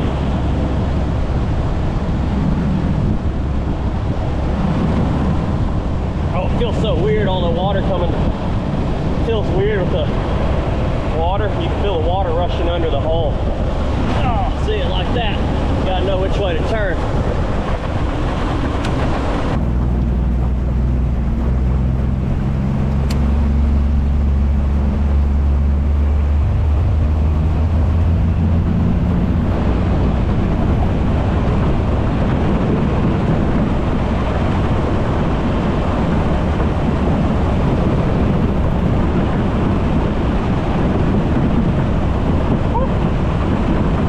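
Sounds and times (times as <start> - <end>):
outboard engine drone: 0.0 - 44.0
water rushing under hull: 0.0 - 44.0
wind on microphone: 0.0 - 44.0.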